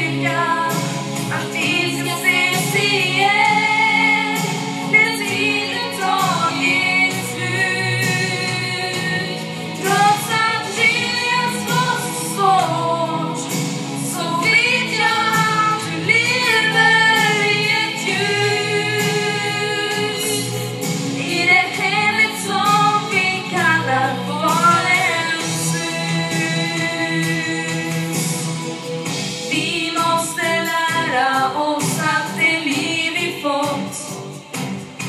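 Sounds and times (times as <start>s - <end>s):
woman singing through microphone: 0.0s - 28.3s, 29.5s - 34.7s
musical accompaniment: 0.0s - 35.0s.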